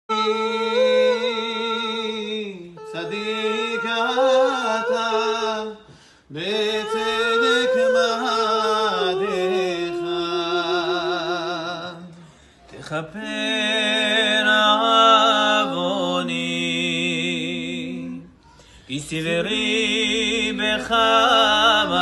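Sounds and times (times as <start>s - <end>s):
men singing a cappella: 0.1s - 22.0s.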